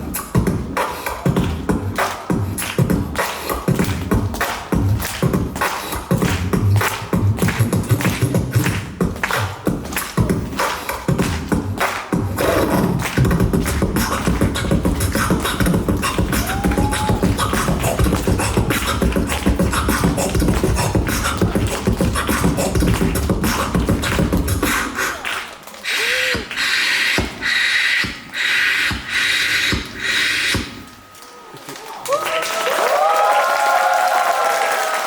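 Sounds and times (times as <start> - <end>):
beatboxing rhythm: 0.0 - 31.2.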